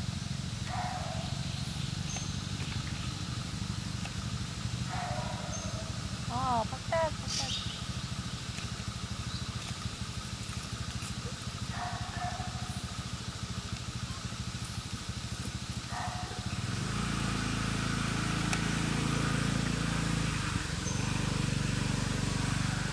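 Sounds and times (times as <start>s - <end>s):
engine running: 0.0s - 22.9s.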